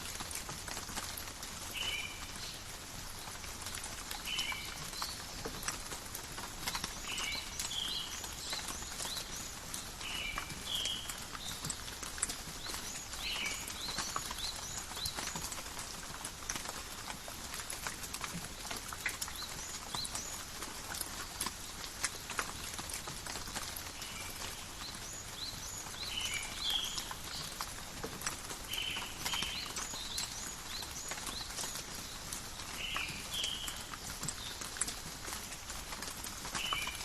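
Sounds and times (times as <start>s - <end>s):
rain hissing in a forest: 0.0s - 37.0s
raindrops pattering on leaves: 0.0s - 37.0s.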